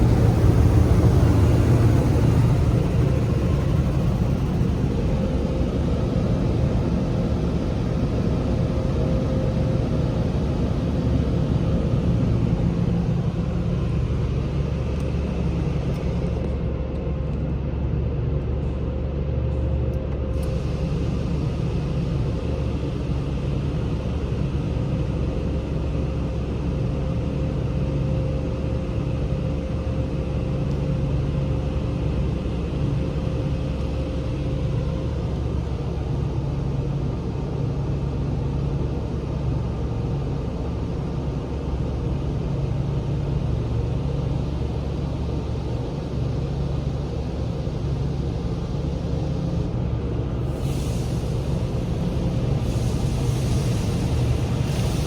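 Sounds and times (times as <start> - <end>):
car wash rumble and hum: 0.0 - 55.0.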